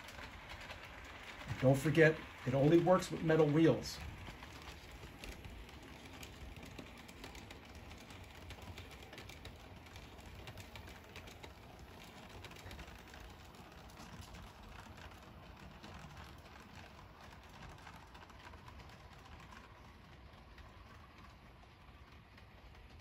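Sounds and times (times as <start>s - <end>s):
model train rumbling on track: 0.0s - 23.0s
small rapid clicks: 0.0s - 23.0s.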